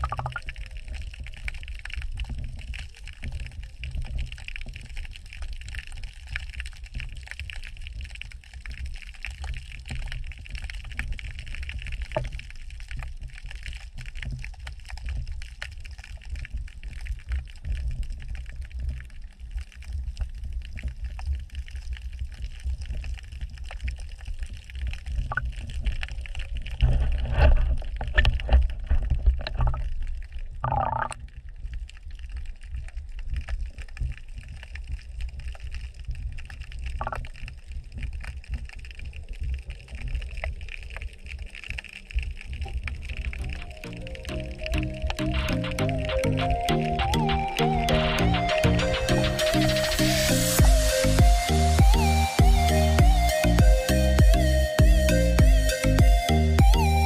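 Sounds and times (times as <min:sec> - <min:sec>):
faint crackles: 0:00.0 - 0:51.0
underwater fluttering rumble: 0:00.0 - 0:53.4.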